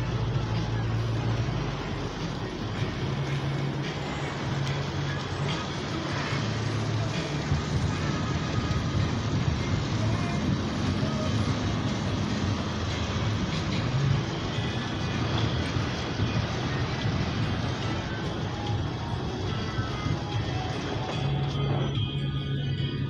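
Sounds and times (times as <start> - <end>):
heavy rain: 0.0 - 23.0
tyres on wet road: 0.0 - 23.0
van engine running: 0.0 - 23.0.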